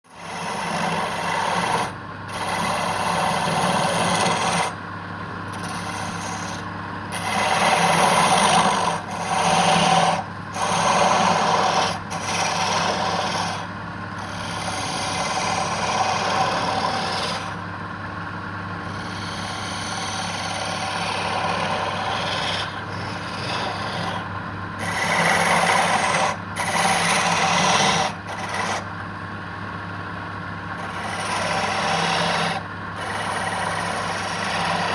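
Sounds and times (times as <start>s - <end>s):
turning tool scraping wood: 0.1s - 4.8s, 5.5s - 17.6s, 18.8s - 28.9s, 30.8s - 34.9s
wood lathe humming: 0.1s - 17.6s, 18.7s - 28.9s, 30.7s - 34.9s.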